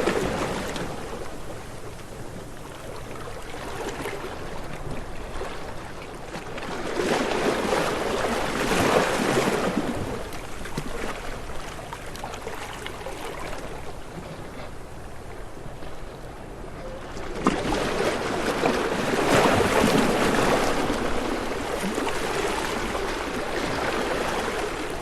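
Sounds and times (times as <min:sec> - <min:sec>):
ocean waves washing in: 0:00.0 - 0:25.0.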